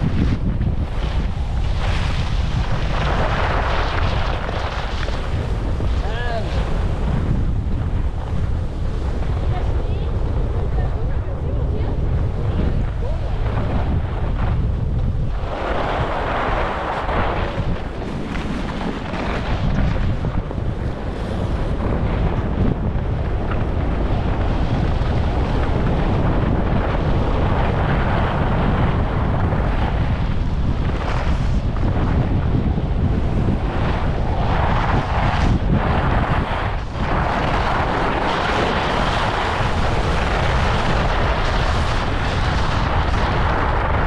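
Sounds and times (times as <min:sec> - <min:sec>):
skis scraping over snow: 0:00.0 - 0:44.0
wind buffeting microphone: 0:00.0 - 0:44.0.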